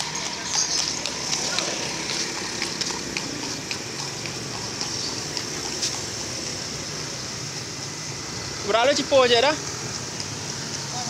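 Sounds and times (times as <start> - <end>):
street market din: 0.0 - 11.0.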